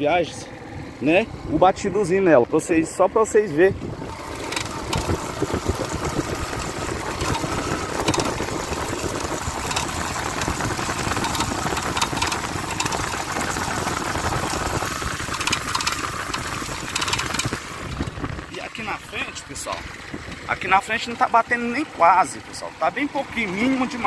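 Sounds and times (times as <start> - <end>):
motorcycle engine running: 0.0 - 24.0
road noise: 0.0 - 24.0.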